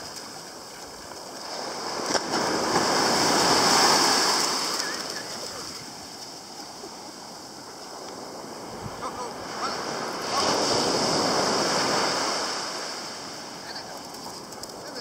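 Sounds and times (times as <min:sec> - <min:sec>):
wave washing up sand: 0:00.0 - 0:15.0.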